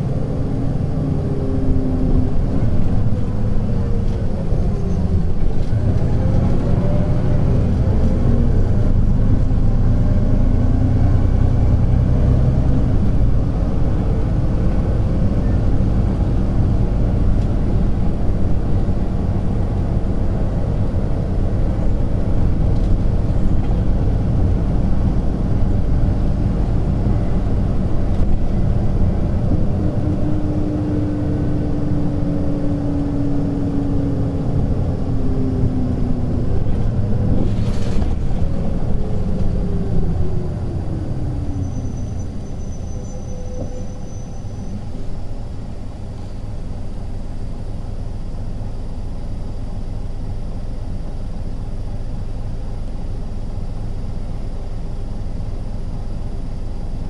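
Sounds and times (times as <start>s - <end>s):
diesel bus engine rumbling: 0.0s - 57.0s.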